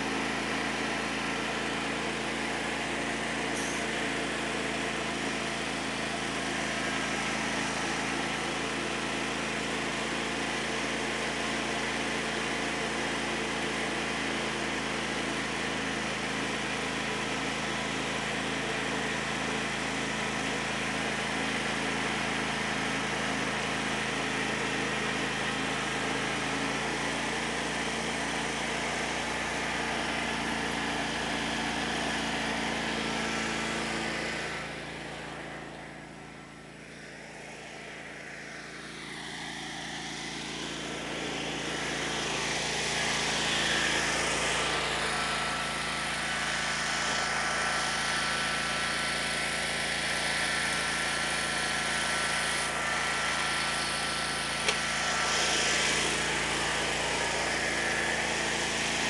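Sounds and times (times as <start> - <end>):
tractor engine running: 0.0 - 13.8, 14.4 - 59.0.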